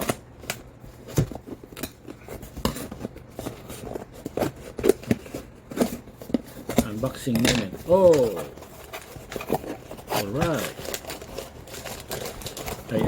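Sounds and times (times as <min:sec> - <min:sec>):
packaging clicking and crinkling: 0:00.0 - 0:13.0.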